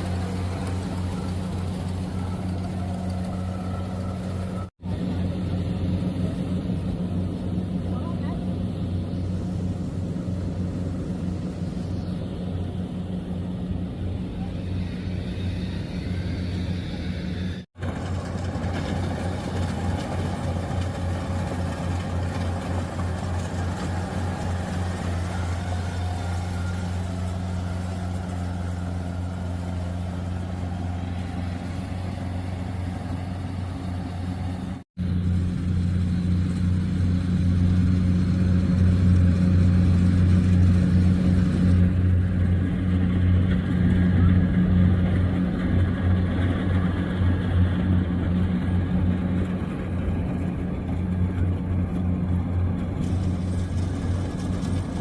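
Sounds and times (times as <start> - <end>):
combine harvester humming: 0.0 - 55.0.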